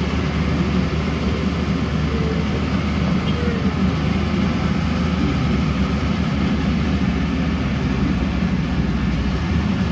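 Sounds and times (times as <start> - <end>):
diesel engine rumbling: 0.0 - 9.9.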